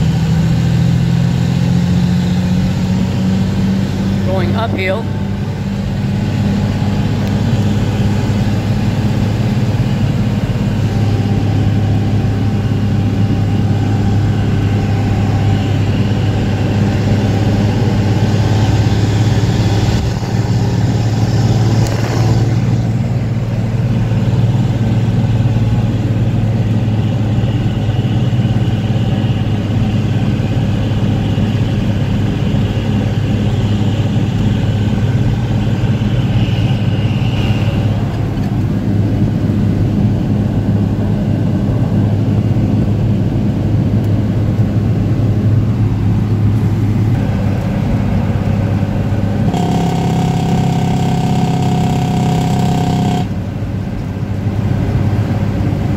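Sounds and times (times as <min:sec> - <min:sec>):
diesel engine drone: 0:00.0 - 0:55.9
road noise: 0:00.0 - 0:55.9.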